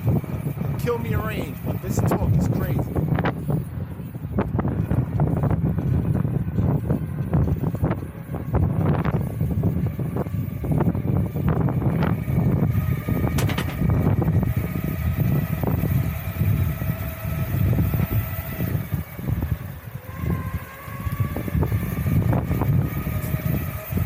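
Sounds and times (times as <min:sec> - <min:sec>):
faint motor whine: 0:00.0 - 0:24.0
wheels rolling over rough ground: 0:00.0 - 0:24.0.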